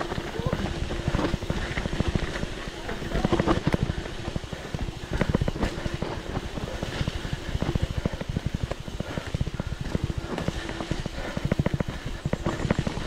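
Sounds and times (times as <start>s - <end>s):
bike rattling over rough trail: 0.0s - 13.0s.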